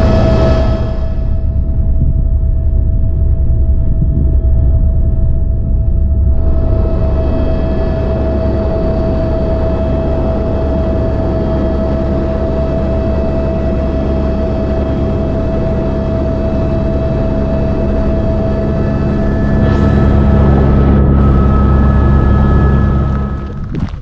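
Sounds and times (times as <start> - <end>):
helicopter cabin drone: 0.0 - 23.7
helicopter whine: 0.0 - 23.8.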